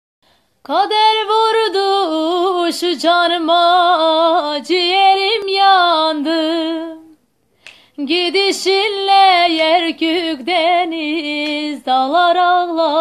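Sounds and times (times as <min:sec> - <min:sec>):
woman singing unaccompanied: 0:00.6 - 0:07.2, 0:08.0 - 0:13.0.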